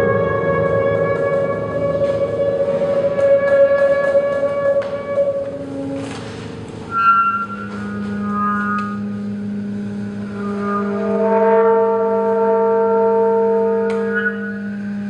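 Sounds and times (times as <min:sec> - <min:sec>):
piano: 0:00.0 - 0:15.0
tenor saxophone: 0:00.0 - 0:15.0.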